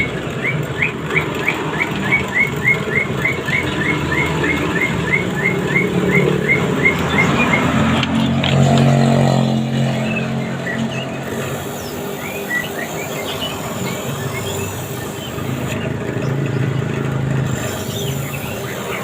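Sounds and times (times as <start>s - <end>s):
small bird chirping: 0.0s - 8.4s, 9.3s - 16.9s, 17.5s - 19.0s
vehicle passing: 0.0s - 19.0s.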